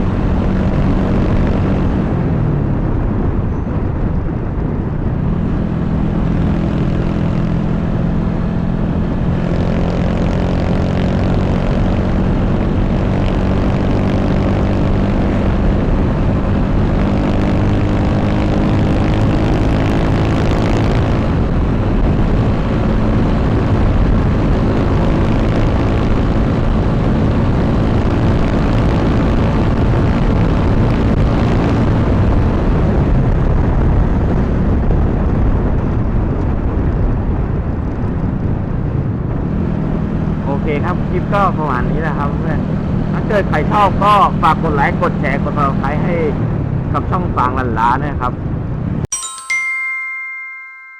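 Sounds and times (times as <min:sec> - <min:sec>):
motorcycle engine running: 0:00.0 - 0:46.9
wind noise: 0:00.0 - 0:49.1.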